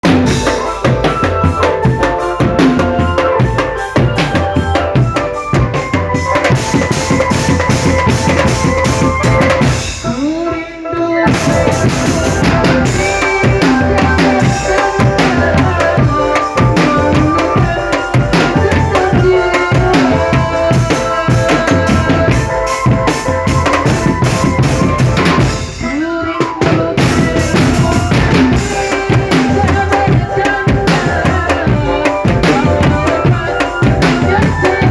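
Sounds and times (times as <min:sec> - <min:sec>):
bass drum and snare patterns: 0:00.0 - 0:34.9
sustained melody: 0:00.0 - 0:34.9.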